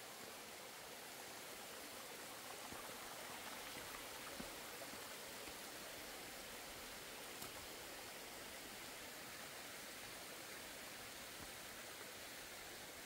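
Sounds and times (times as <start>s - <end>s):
mountain stream over rocks: 0.0s - 13.0s.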